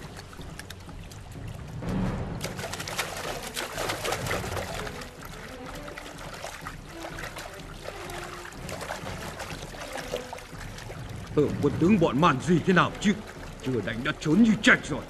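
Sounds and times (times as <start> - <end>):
moving water: 0.0 - 15.0
water splashing: 0.0 - 15.0.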